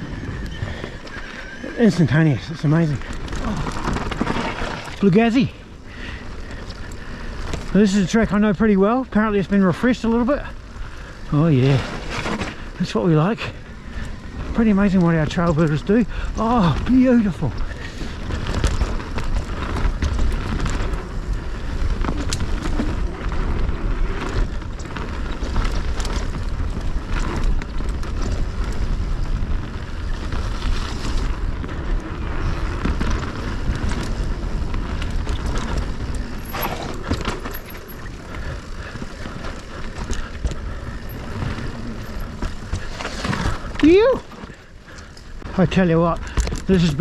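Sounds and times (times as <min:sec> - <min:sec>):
wind rumble on microphone: 0:00.0 - 0:09.5, 0:10.3 - 0:47.0
bike clicks and rattles: 0:00.0 - 0:47.0
tyres rolling on dirt: 0:00.0 - 0:47.0.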